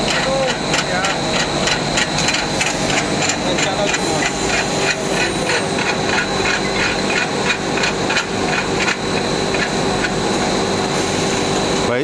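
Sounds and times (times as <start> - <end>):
high machine whine: 0.0 - 12.0
machine hum and hiss: 0.0 - 12.0.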